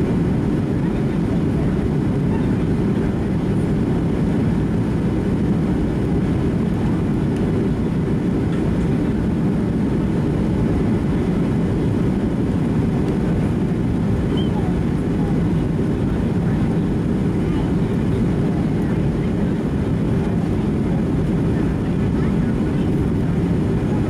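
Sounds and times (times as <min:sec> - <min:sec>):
airplane cabin noise: 0:00.0 - 0:24.0.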